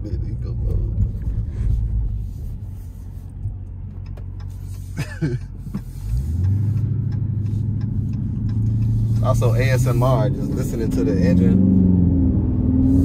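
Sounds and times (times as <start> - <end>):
car engine drone from cabin: 0.0 - 13.0.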